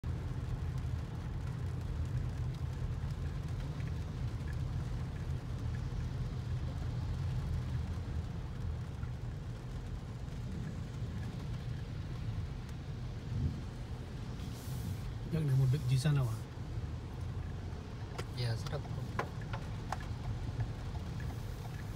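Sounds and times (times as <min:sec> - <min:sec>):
engine and road rumble inside car: 0:00.0 - 0:21.9.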